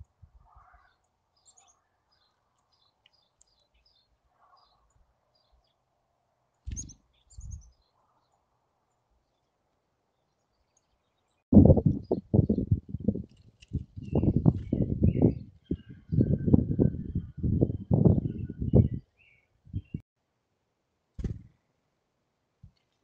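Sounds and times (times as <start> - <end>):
songbirds chirping: 0.0 - 20.1.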